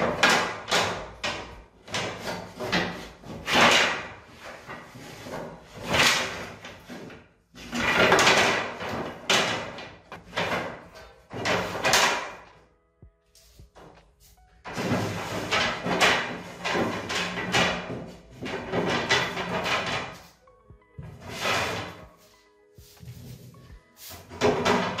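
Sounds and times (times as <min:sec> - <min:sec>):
slats scraping slides: 0:00.0 - 0:12.5, 0:14.7 - 0:20.3, 0:21.2 - 0:22.2, 0:23.1 - 0:25.0
wooden slats clattering: 0:00.0 - 0:12.6, 0:14.6 - 0:20.4, 0:21.0 - 0:22.1, 0:24.1 - 0:25.0.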